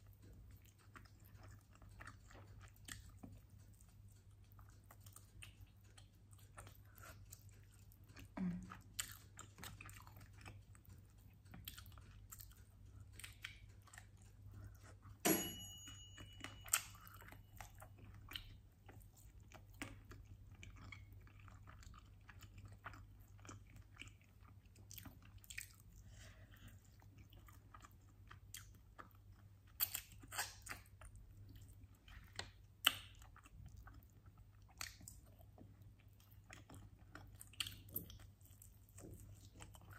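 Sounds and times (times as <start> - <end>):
chewing chicken wings: 0.0 - 15.2, 16.9 - 39.9.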